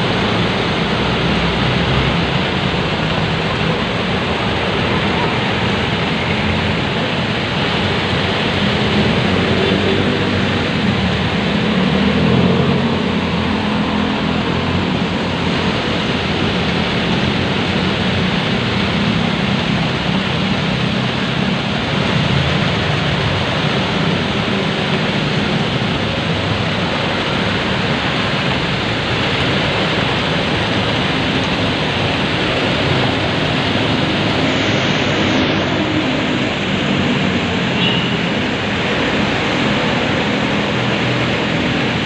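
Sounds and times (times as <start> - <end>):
heavy rain: 0.0 - 42.0.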